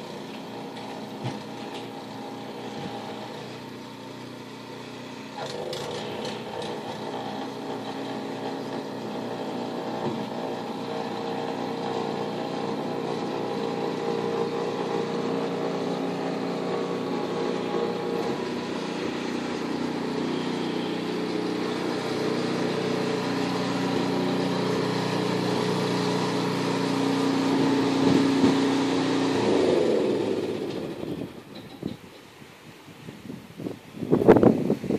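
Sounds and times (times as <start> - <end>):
engine humming steadily: 0.0 - 32.8.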